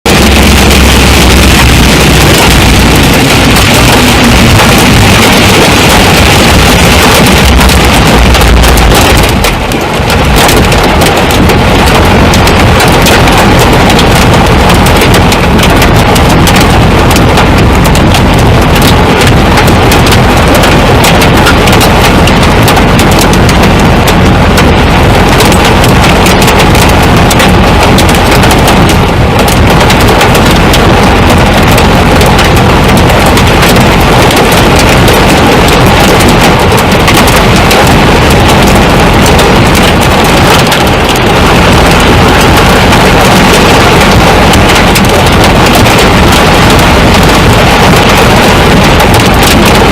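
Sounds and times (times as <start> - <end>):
hail pounding a vehicle: 0.0 - 49.9
heavy rain: 0.0 - 49.9.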